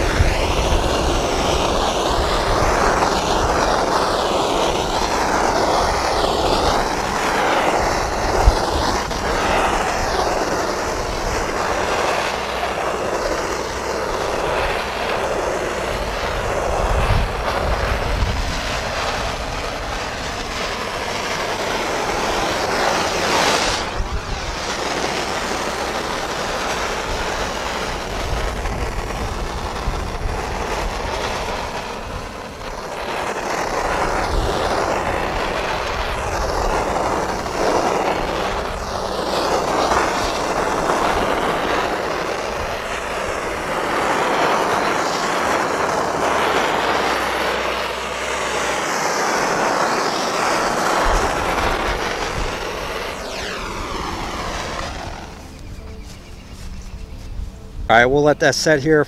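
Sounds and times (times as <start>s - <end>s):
gas torch hissing: 0.0s - 59.0s.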